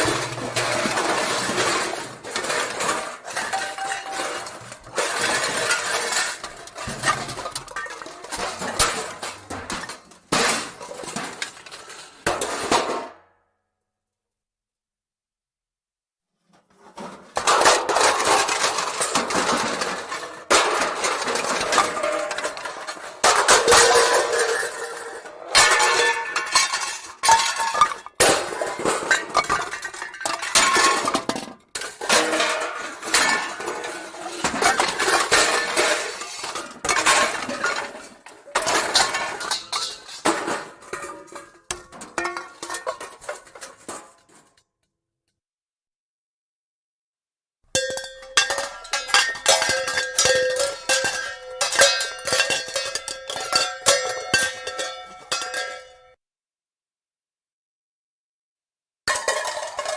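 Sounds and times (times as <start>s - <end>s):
metal pots and pans clattering: 0.0s - 13.2s, 16.7s - 44.6s, 47.8s - 56.2s, 59.1s - 59.9s.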